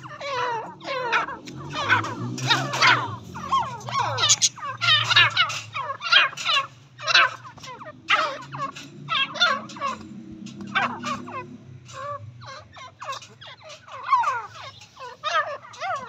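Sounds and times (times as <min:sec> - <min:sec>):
francolins calling: 0:00.0 - 0:16.0.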